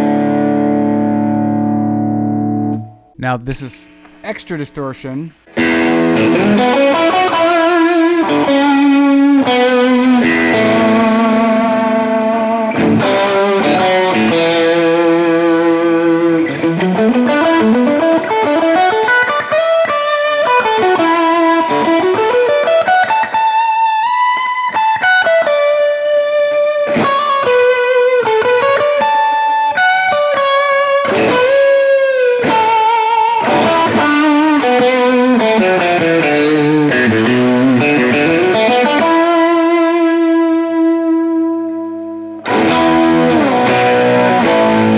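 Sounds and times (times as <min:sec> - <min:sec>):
distorted electric guitar lead: 0:00.0 - 0:22.5, 0:23.1 - 0:44.9.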